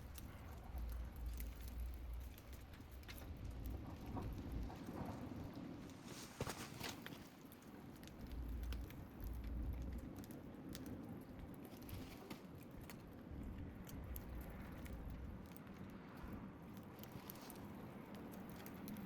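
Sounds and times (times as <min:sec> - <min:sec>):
bonfire crackling and popping: 0:00.0 - 0:19.0.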